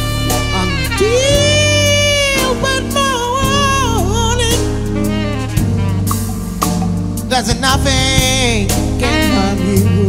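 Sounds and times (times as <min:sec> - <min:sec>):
slow jazz tune: 0:00.0 - 0:10.0.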